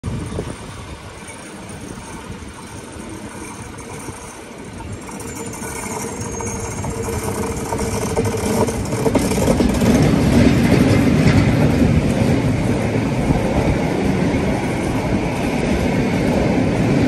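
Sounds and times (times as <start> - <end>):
approaching train rumble: 0.0 - 17.0.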